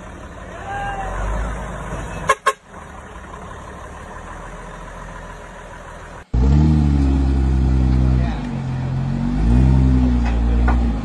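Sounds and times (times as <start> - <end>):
faint engine rumble: 0.0 - 11.0.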